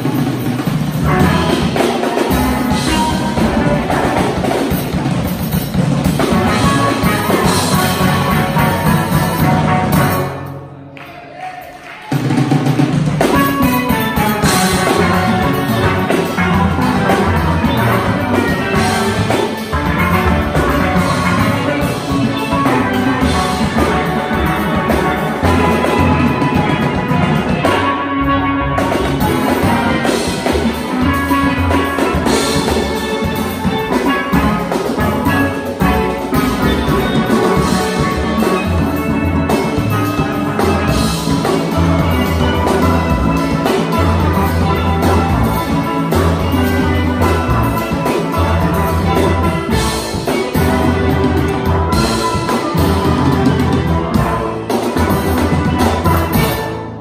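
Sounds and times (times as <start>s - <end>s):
steel band playing calypso: 0.0s - 11.0s, 11.6s - 57.0s
drum kit: 0.0s - 57.0s.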